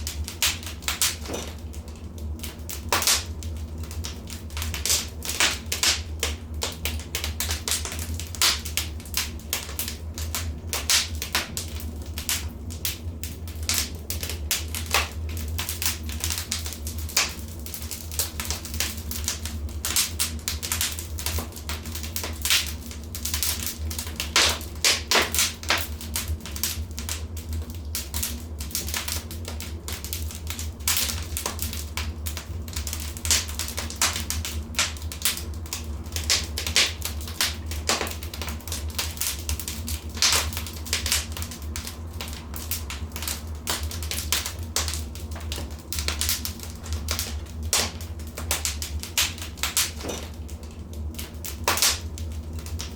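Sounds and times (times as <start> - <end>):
steady low hum: 0.0 - 52.9
wood fire crackling and popping: 0.0 - 52.9.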